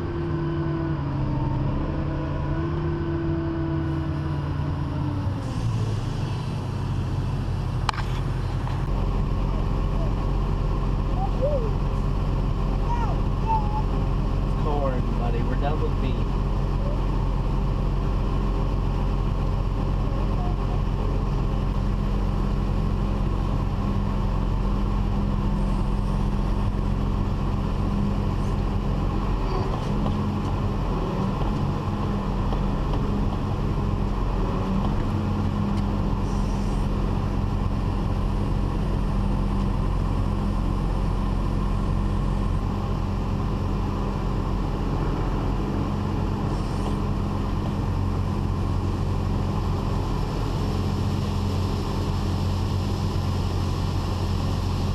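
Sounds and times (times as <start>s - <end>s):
diesel engine humming: 0.0s - 54.9s.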